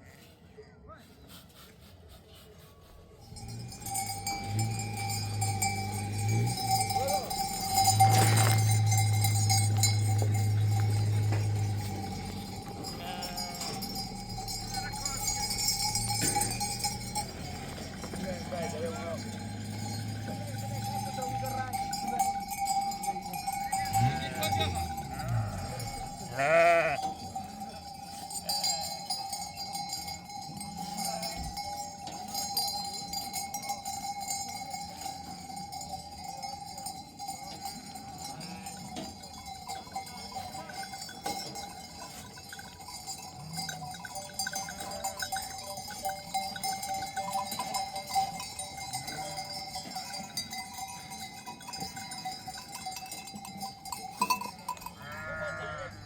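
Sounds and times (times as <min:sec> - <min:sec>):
animal bells clinking: 0:02.1 - 0:56.0.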